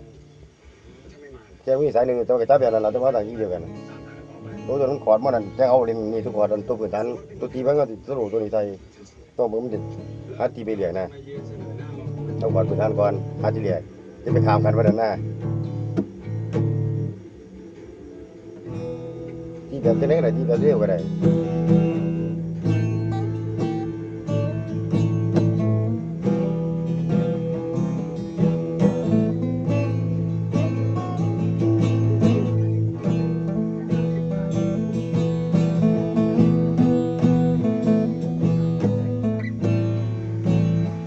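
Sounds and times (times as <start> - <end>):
acoustic guitar strummed chords: 1.8 - 8.7, 9.4 - 17.9, 18.5 - 41.0.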